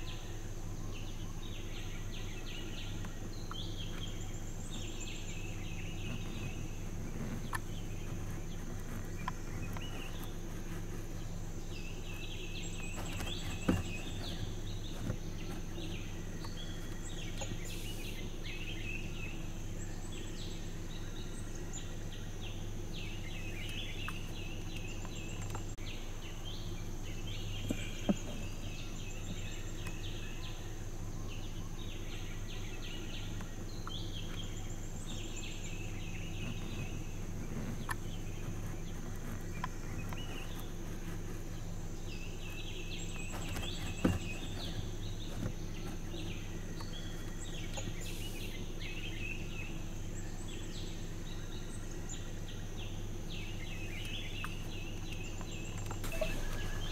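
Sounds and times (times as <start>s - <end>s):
birds chattering: 0.0s - 56.9s
constant low hum: 0.0s - 56.9s
high insect drone: 0.0s - 56.9s.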